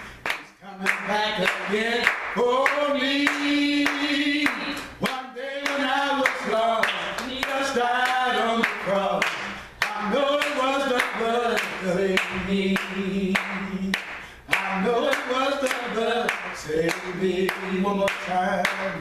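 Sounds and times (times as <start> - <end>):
hands clapping: 0.0 - 19.0
man singing unaccompanied: 0.6 - 19.0.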